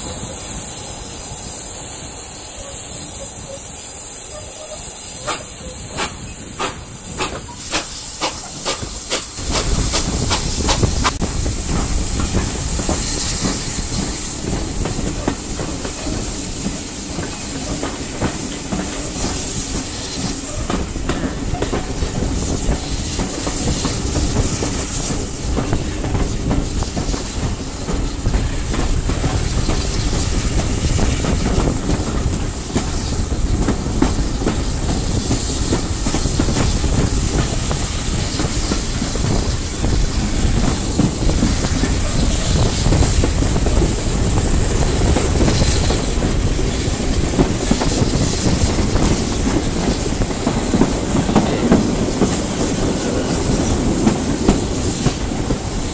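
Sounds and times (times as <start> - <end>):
wind and running gear noise: 0.0 - 55.9.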